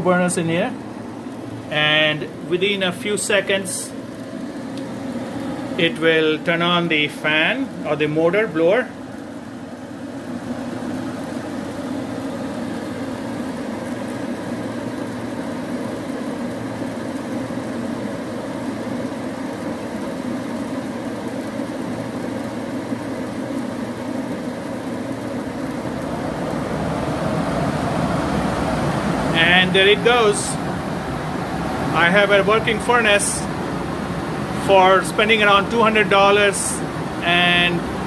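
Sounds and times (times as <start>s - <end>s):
blower motor starting: 0.0s - 38.0s
gas furnace humming and rushing: 0.0s - 38.0s.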